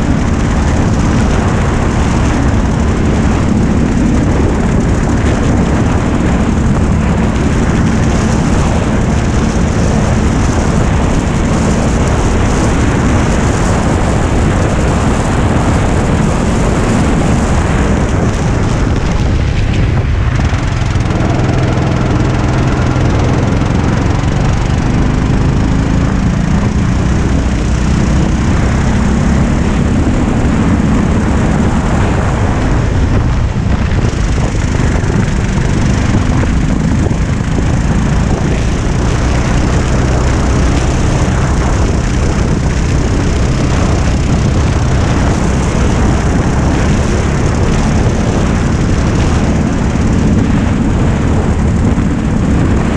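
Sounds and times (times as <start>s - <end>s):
go-kart engine running: 0.0s - 52.9s
steady rushing noise: 0.0s - 52.9s.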